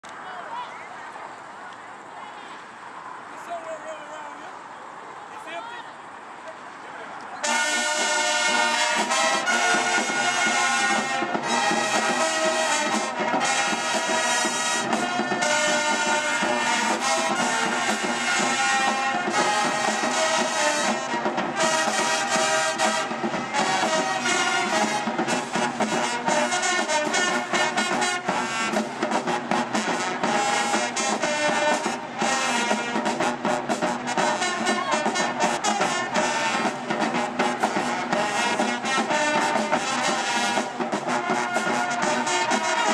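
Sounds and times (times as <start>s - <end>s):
brass band playing: 7.4s - 42.9s.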